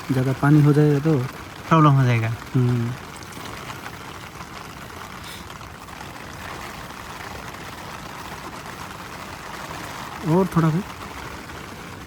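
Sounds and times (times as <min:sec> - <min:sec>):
heavy rain on a tent: 0:00.0 - 0:12.0.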